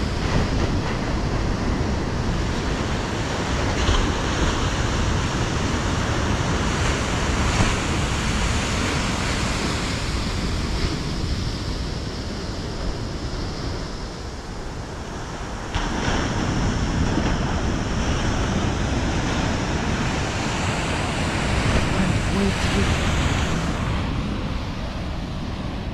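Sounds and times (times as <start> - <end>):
ocean surf breaking: 0.0 - 25.9
wind rumbling on microphone: 0.0 - 25.9.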